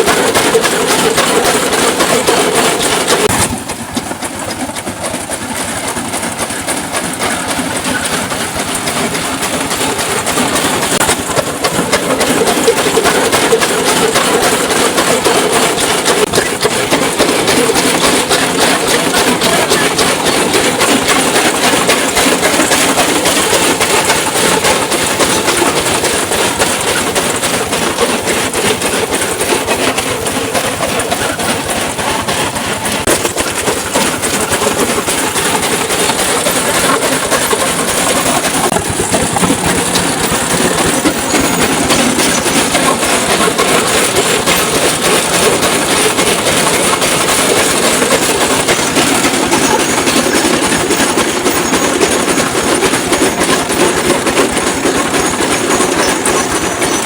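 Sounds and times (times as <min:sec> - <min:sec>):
brick crushing machine clattering: 0:00.0 - 0:57.0.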